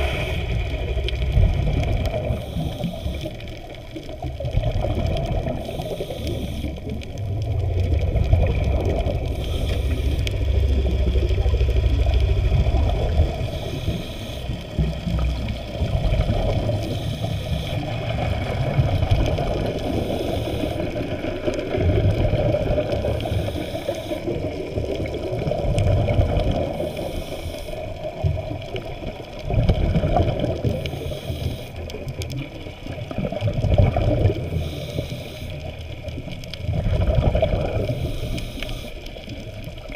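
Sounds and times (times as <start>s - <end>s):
muffled underwater wash: 0.0s - 39.9s.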